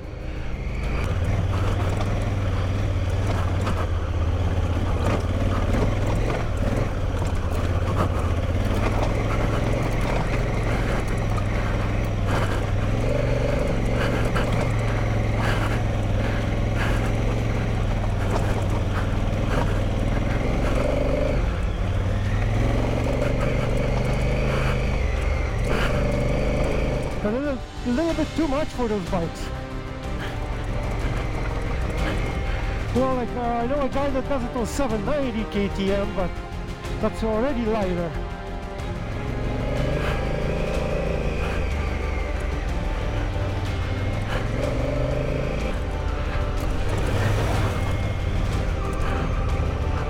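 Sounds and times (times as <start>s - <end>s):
motorcycle engine running: 0.0s - 50.0s
tyres and suspension rattling: 0.0s - 50.0s.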